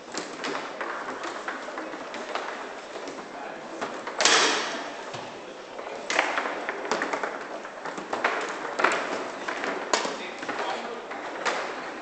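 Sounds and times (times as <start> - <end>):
foosball ball knocking and clacking: 0.0 - 5.3, 6.0 - 12.0.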